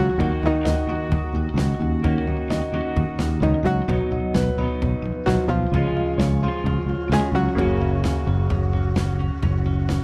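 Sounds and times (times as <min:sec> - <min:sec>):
guitar-led background music: 0:00.0 - 0:10.0.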